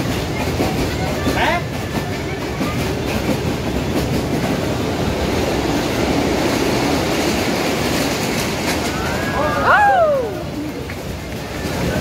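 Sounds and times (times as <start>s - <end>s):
train rumbling and rattling: 0.0s - 12.0s.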